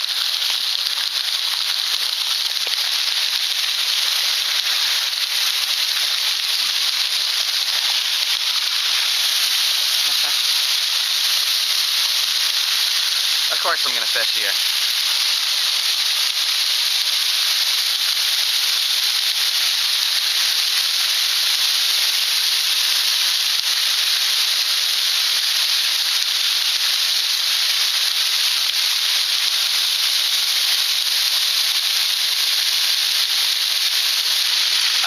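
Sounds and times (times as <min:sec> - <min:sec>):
waterfall hissing: 0:00.0 - 0:35.0.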